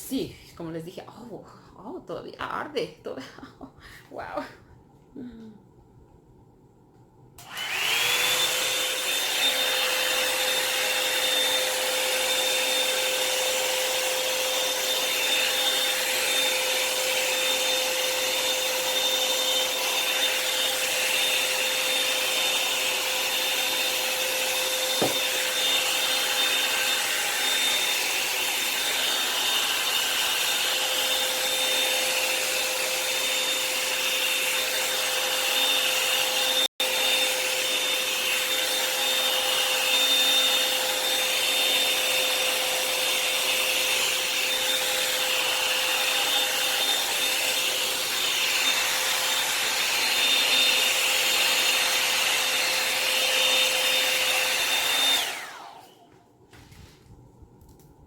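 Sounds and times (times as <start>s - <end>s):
hair dryer brush whining: 7.4s - 56.2s.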